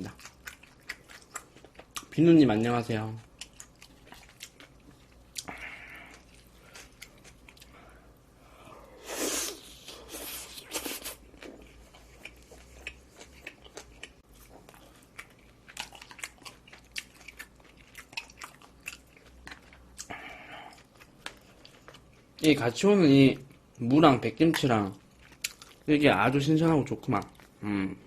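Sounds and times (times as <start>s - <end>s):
person chewing food: 0.0s - 2.2s, 3.2s - 22.5s, 23.4s - 25.9s.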